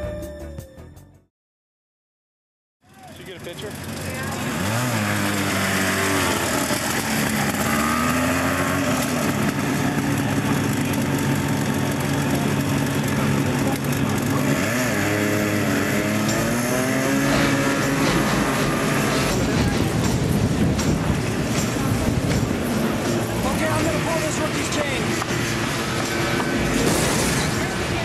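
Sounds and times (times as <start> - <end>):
go-kart engine pulling away: 2.9 - 28.0.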